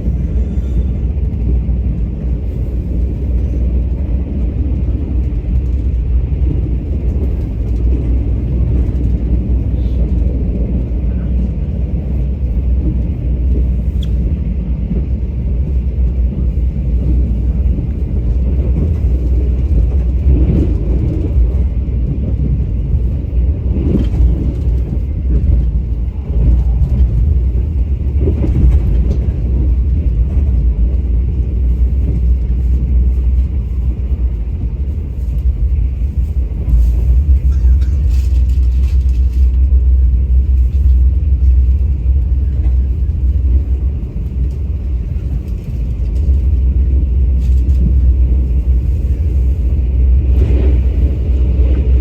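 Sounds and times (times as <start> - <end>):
train rumbling: 0.0 - 52.0.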